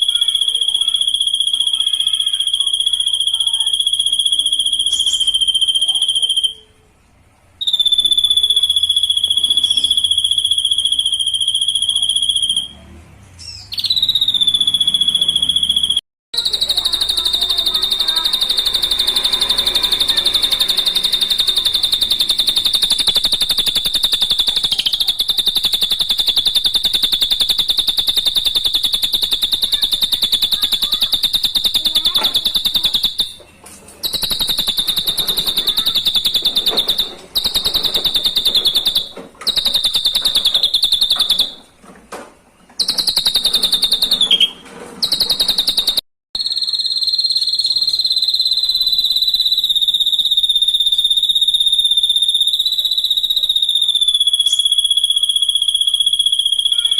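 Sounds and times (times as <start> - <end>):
bird whistling trilled song: 0.0 - 6.8, 7.6 - 12.7, 13.4 - 33.4, 34.0 - 41.7, 42.8 - 56.9.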